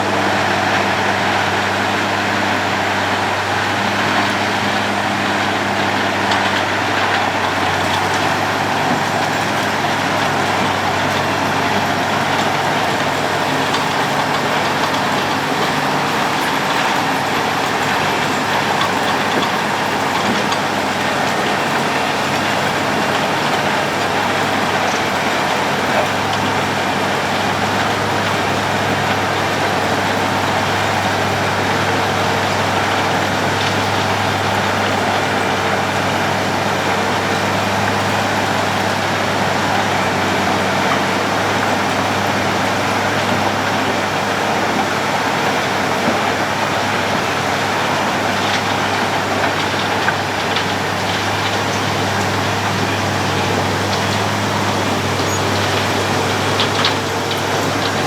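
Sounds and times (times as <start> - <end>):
road planing machine engine drone: 0.0 - 58.0.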